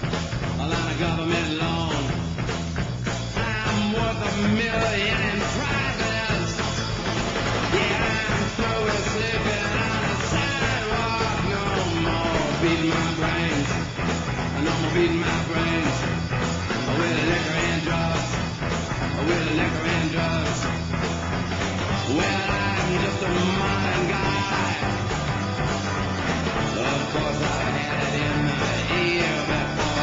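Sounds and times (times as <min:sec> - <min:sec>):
rock music with singing: 0:00.0 - 0:30.0.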